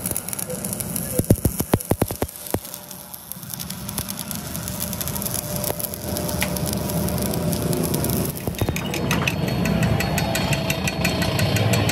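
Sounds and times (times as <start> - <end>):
welding arc crackling: 0.0 - 9.8.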